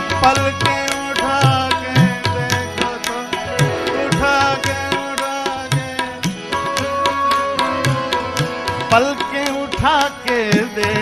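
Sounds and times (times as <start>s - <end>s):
harmonium sustained notes: 0.0s - 11.0s
tabla rhythm: 0.0s - 11.0s.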